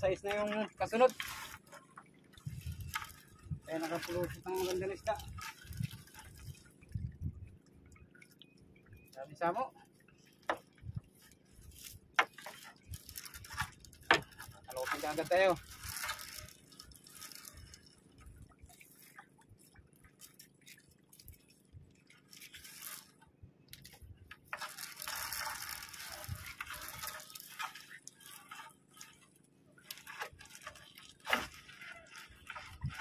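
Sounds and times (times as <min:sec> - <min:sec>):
fishing net rustling: 0:00.2 - 0:08.3, 0:09.9 - 0:33.0
water dripping and splashing: 0:00.2 - 0:33.0.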